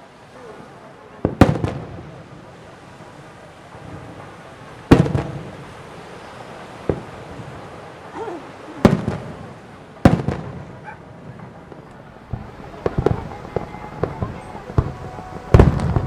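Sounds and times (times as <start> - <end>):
smaller firework bangs: 1.0 - 16.0
firework shells booming: 1.2 - 8.0, 8.8 - 16.0.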